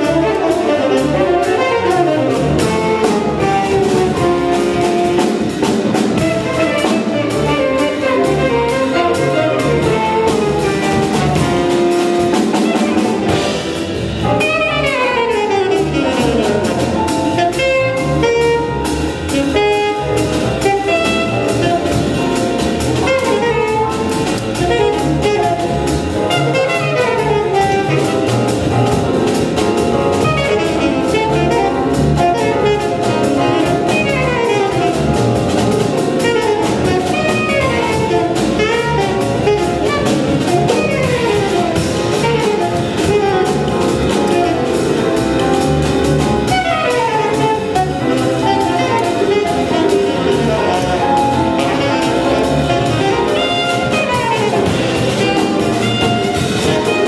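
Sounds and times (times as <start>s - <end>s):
drum kit: 0.0s - 57.0s
grand piano: 0.0s - 57.0s
saxophones: 0.0s - 57.0s
upright bass: 0.0s - 57.0s.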